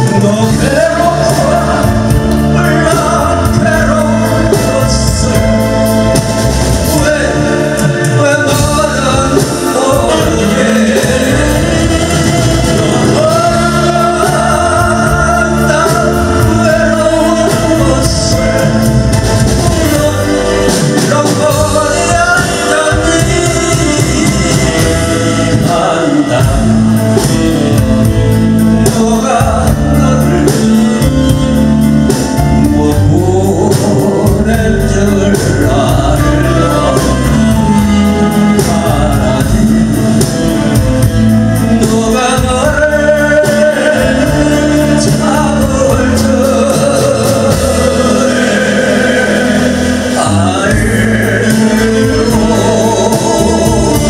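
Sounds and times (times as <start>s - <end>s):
live band with drum beat: 0.0s - 54.0s
man singing into a microphone: 0.0s - 54.0s.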